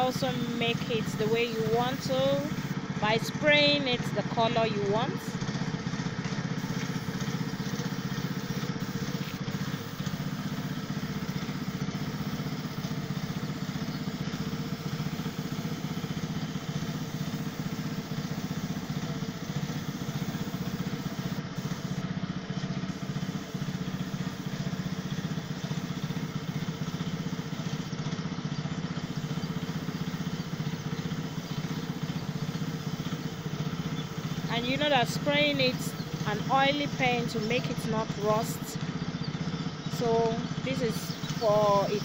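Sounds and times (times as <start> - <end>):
paint spray gun hissing: 0.0 - 28.0, 29.0 - 38.6, 39.9 - 42.0
air compressor running: 0.0 - 42.0.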